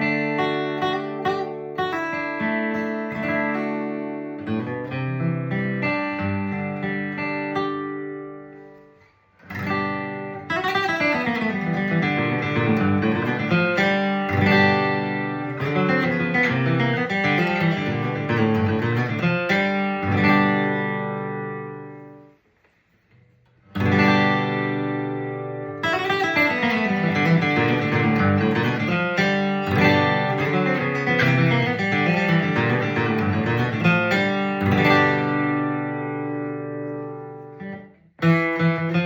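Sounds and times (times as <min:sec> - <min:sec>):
acoustic guitar picking and strumming: 0:00.0 - 0:39.0.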